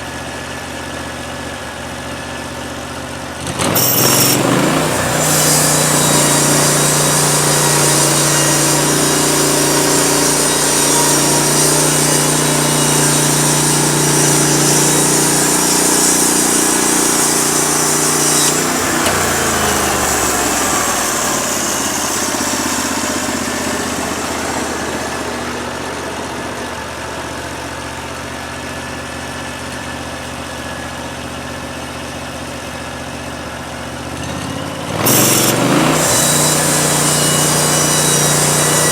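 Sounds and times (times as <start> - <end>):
sawmill gas engine running: 0.0 - 38.9.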